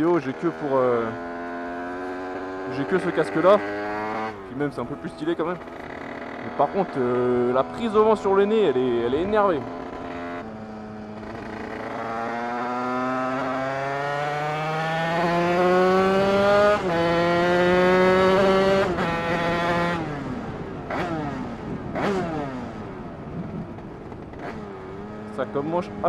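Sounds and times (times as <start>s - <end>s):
two-stroke motorbike engine accelerating: 0.0s - 26.0s.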